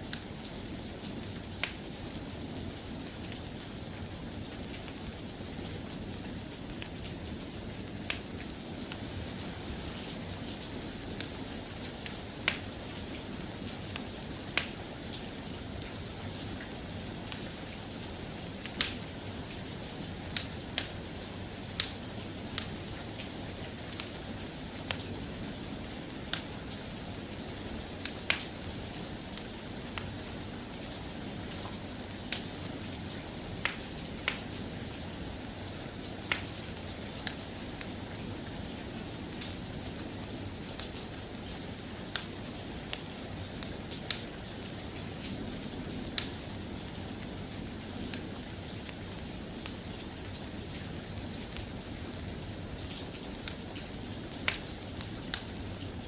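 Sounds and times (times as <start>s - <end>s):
soft rain: 0.0s - 56.0s
fireplace crackling: 5.9s - 46.5s, 47.2s - 56.0s.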